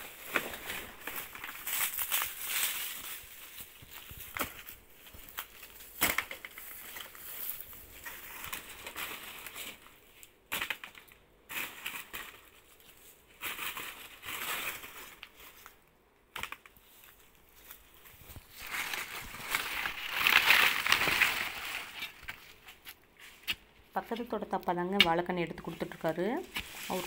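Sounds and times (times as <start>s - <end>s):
dry leaves crunching and crinkling: 0.0s - 10.2s, 11.5s - 15.9s, 16.8s - 23.4s, 25.7s - 27.0s.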